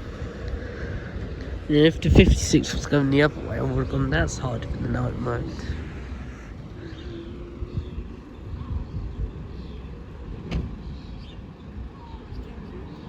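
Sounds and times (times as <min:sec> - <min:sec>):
road vehicles rumbling past: 0:00.0 - 0:13.0.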